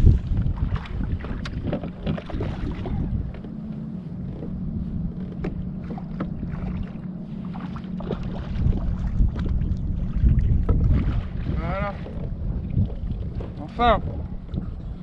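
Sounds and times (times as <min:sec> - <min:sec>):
steady low hum: 0:00.0 - 0:15.0
water lapping against hull: 0:00.0 - 0:15.0
wind on microphone: 0:00.0 - 0:15.0.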